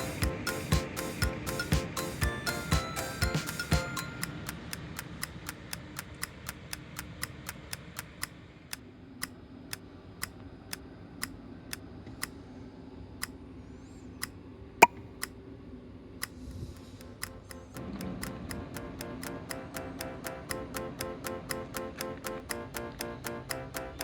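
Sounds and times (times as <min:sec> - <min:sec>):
sharp ticking clicks: 0:00.0 - 0:12.4, 0:16.2 - 0:24.0.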